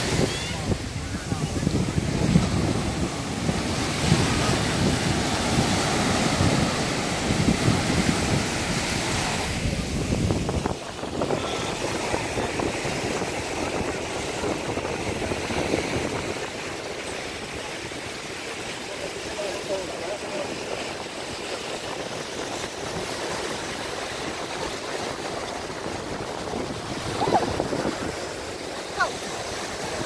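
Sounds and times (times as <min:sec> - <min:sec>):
small waves breaking on sand: 0:00.0 - 0:30.0
wind buffeting microphone: 0:00.0 - 0:30.0.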